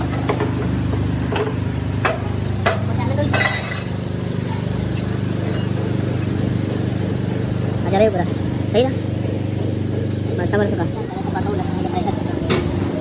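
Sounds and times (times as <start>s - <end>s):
workshop machinery humming: 0.0s - 13.0s.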